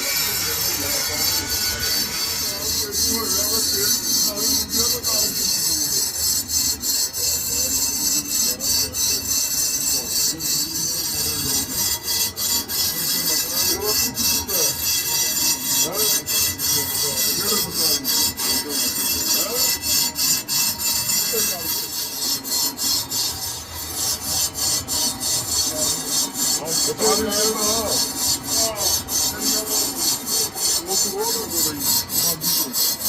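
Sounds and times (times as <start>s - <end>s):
metal scraping on a lathe: 0.0s - 33.0s.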